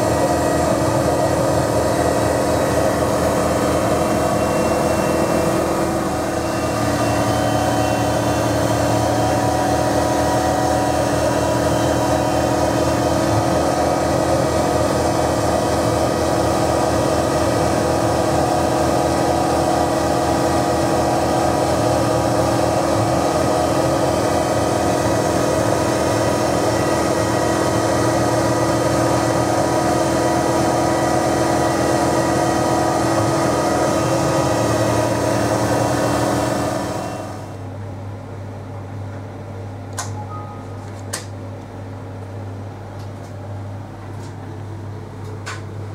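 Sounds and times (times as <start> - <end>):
milling machine humming: 0.0 - 45.9.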